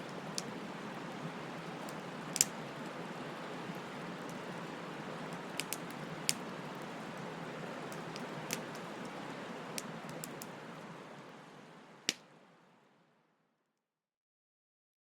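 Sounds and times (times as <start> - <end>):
fire crackles and pops: 0.0 - 12.4
bonfire hissing: 0.0 - 12.8.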